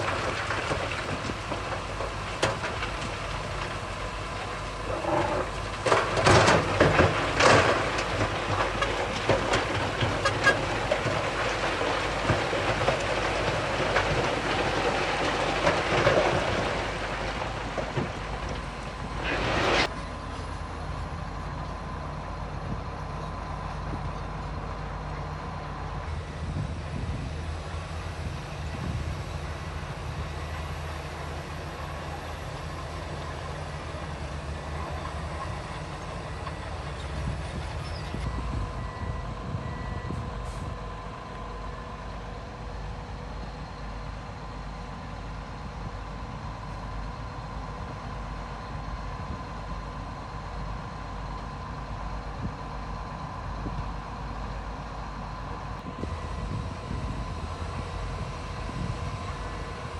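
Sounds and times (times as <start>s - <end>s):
bulldozer diesel engine rumble: 0.0s - 59.9s.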